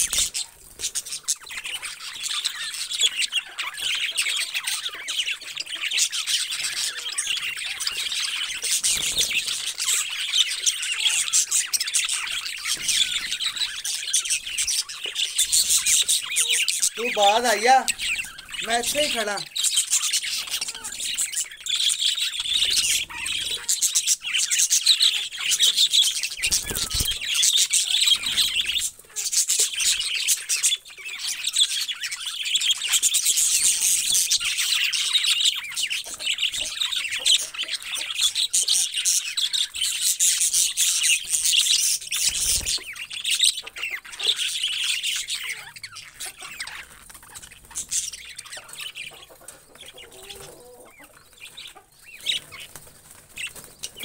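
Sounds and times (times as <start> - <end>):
budgerigars chattering and warbling: 0.0 - 54.0.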